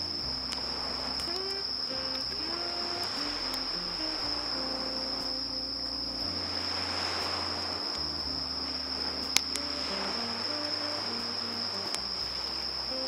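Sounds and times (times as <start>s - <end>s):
insects trilling: 0.0s - 13.0s
soft background music: 0.0s - 13.0s.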